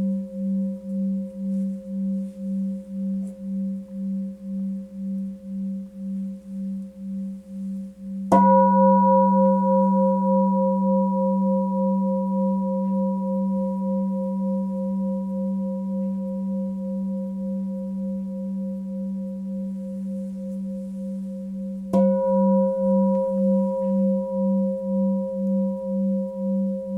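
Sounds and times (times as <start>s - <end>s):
singing bowl ringing: 0.0s - 26.9s
singing bowl struck: 0.0s - 26.9s.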